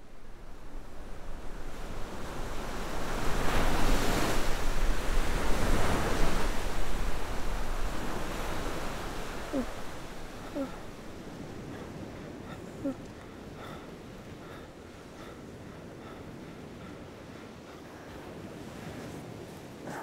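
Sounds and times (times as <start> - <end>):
waves breaking on beach: 0.2 - 20.0.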